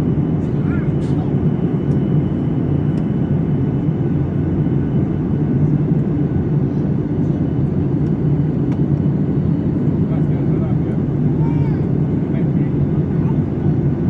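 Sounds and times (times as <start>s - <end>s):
airliner cabin engine drone: 0.0s - 14.0s.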